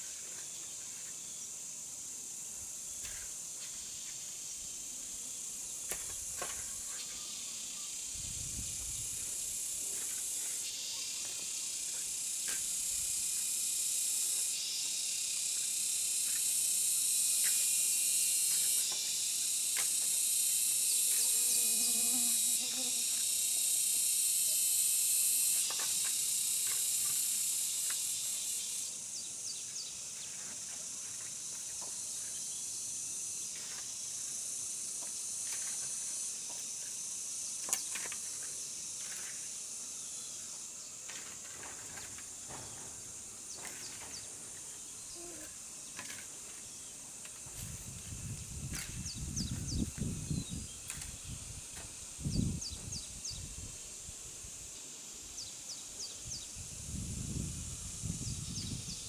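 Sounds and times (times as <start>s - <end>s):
insect chorus buzzing: 0.0s - 59.0s.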